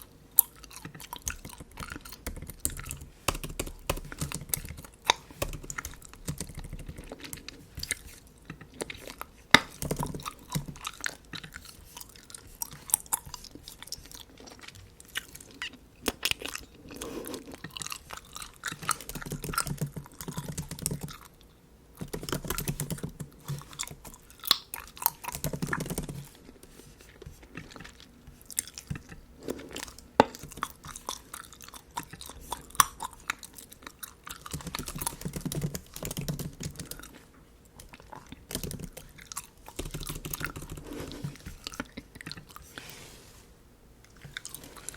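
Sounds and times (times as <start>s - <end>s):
gum chewing smacks: 0.0s - 42.8s.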